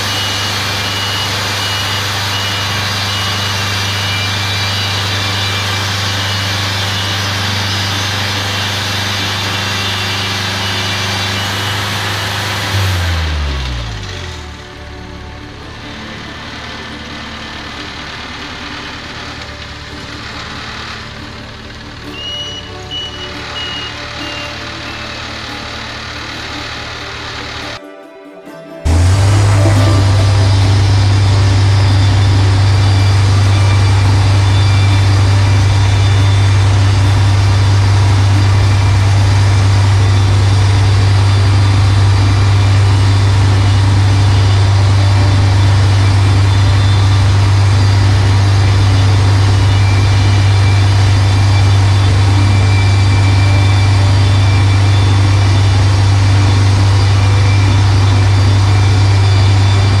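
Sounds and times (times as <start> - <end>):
band sawmill cutting log: 0.0 - 27.8, 28.8 - 60.0.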